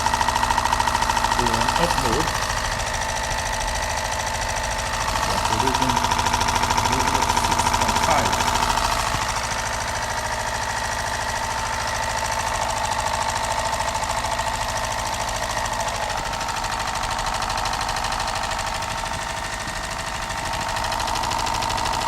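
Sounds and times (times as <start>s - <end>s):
small engine mechanical clatter: 0.0s - 22.0s.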